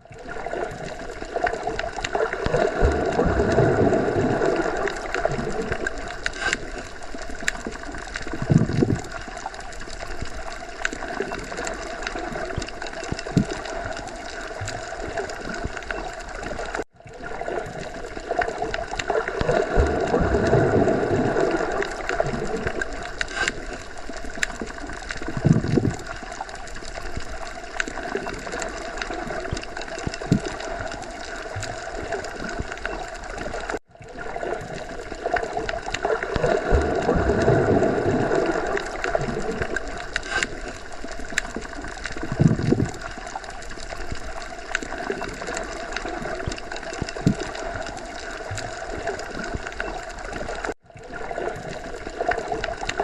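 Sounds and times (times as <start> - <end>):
muffled underwater water wash: 0.0 - 53.0.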